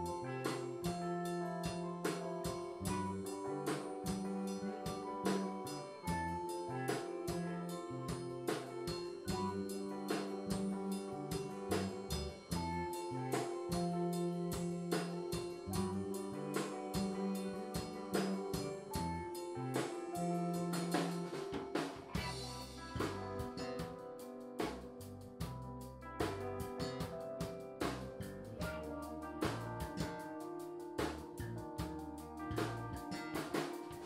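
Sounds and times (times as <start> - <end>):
band music with drums and bass: 0.0 - 34.0.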